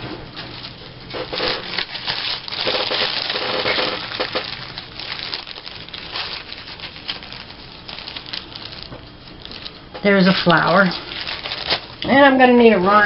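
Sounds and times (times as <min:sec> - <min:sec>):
paper crinkling and rustling: 0:00.2 - 0:12.0.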